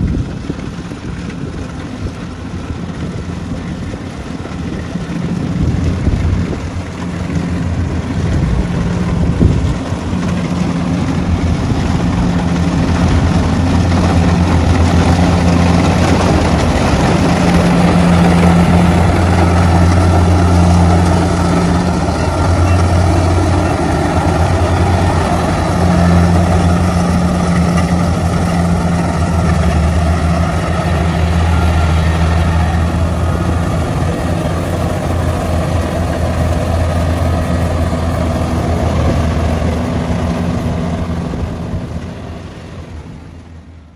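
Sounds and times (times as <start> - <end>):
diesel engine humming: 0.0 - 43.9
rushing mechanical noise: 0.0 - 43.9.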